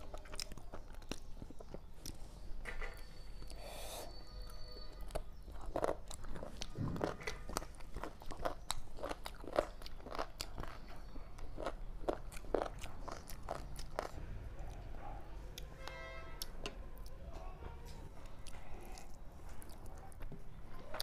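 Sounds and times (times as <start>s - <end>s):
person chewing with wet clicks: 0.0s - 3.6s, 4.4s - 15.8s, 16.4s - 17.2s, 17.8s - 21.0s.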